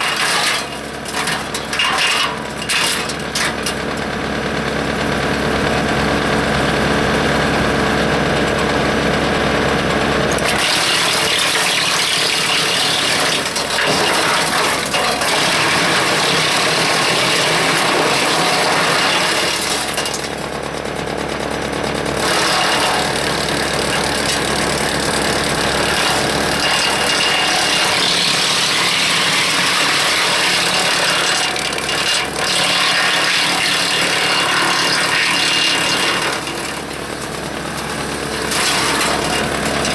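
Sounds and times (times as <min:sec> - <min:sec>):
chipper grinding branches: 0:00.0 - 0:39.9
wood chipper running: 0:00.0 - 0:39.9.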